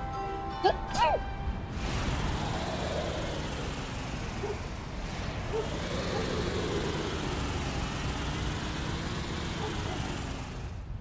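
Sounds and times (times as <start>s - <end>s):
steady rushing noise: 1.6s - 11.0s
cartoon car engine running: 1.7s - 11.0s.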